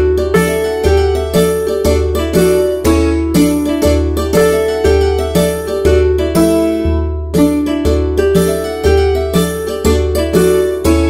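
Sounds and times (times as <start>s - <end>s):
bass line: 0.0s - 11.0s
keyboard tune: 0.0s - 11.0s.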